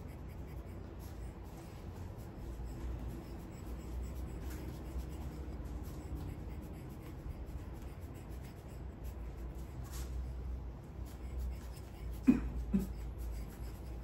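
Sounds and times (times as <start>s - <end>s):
light scratchy rubbing: 0.0s - 12.2s
low steady hum: 0.0s - 14.0s.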